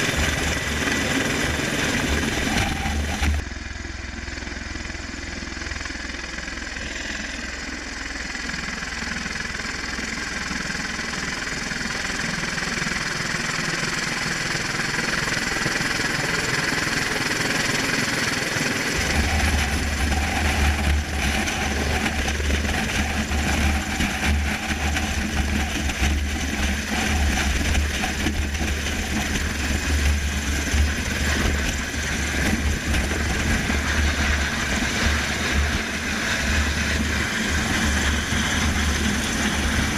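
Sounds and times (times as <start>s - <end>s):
deep low rumble: 0.0s - 39.9s
tilt-rotor aircraft engines rushing: 0.0s - 39.9s.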